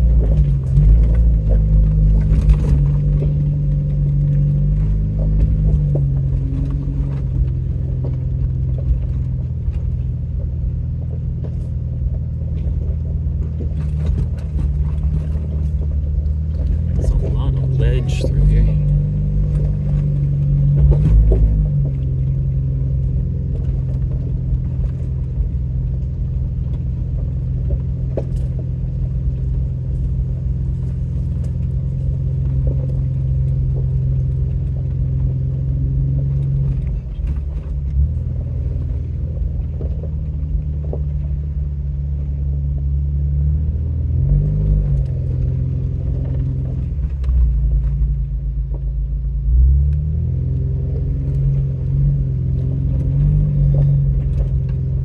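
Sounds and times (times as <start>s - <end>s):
vehicle engine rumble in cabin: 0.0s - 55.0s.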